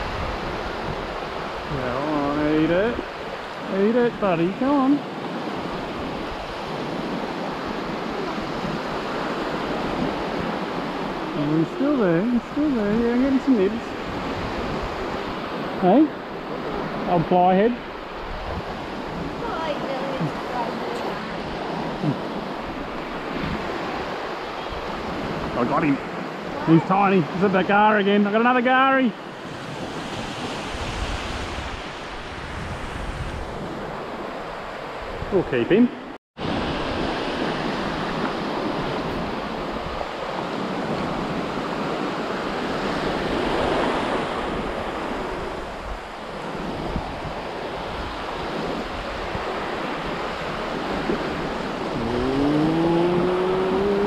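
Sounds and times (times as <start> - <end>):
wind on microphone: 0.0 - 27.6, 29.2 - 54.0
surf waves washing up a beach: 0.0 - 54.0.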